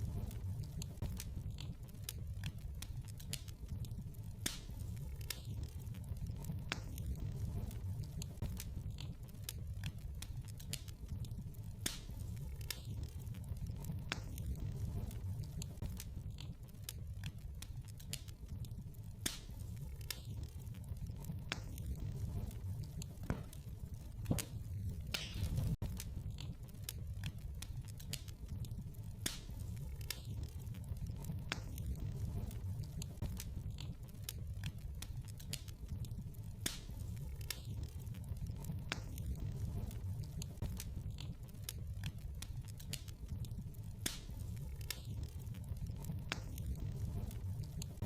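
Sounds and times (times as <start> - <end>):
low rumble of fire: 0.0 - 48.0
wood fire crackling: 0.0 - 48.0.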